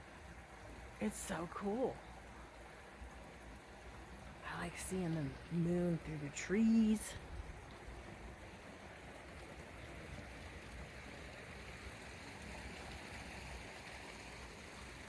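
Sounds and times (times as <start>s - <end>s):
waterfall flowing water: 0.0s - 15.0s.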